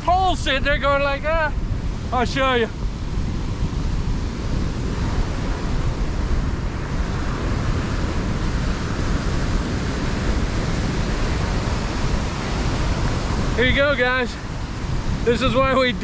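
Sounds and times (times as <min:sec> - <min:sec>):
ocean surf on beach: 0:00.0 - 0:16.0
wind rumbling on microphone: 0:00.0 - 0:16.0.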